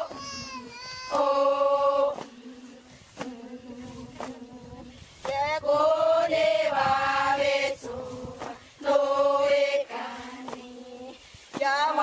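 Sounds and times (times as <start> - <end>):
women chanting in unison: 0.0 - 12.0.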